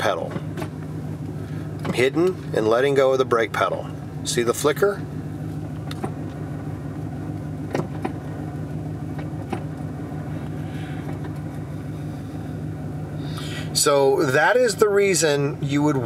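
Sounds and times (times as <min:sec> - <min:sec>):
pickup engine idling: 0:00.0 - 0:16.0.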